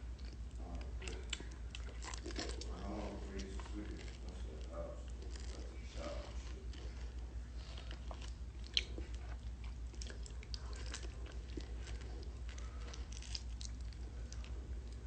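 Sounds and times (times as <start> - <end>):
low steady hum: 0.0 - 15.0
person chewing mango: 0.0 - 15.0.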